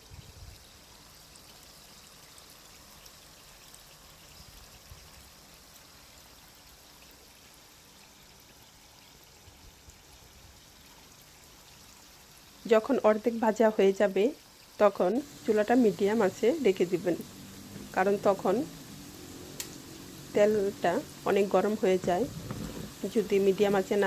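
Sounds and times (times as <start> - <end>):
food deep-frying in hot oil: 0.0 - 24.0.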